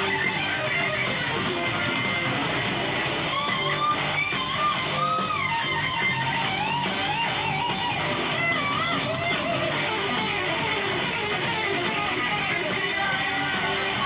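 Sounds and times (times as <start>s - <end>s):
electric guitar lead bending pitch: 0.0s - 14.0s
heavy metal band playing: 0.0s - 14.0s.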